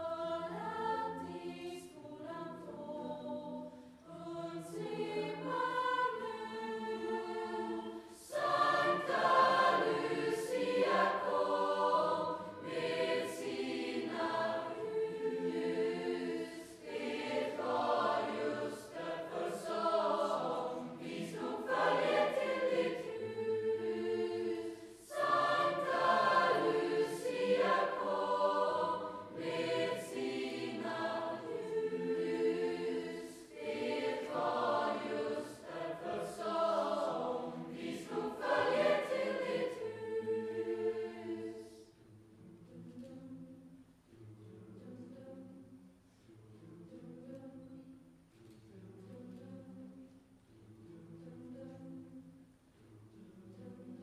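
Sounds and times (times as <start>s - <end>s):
school choir singing: 0.0s - 54.0s.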